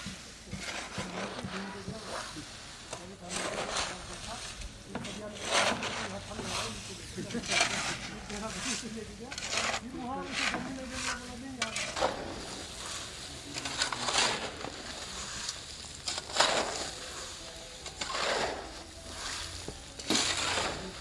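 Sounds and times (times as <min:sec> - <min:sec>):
plastic sacks rustling and scraping: 0:00.0 - 0:21.0.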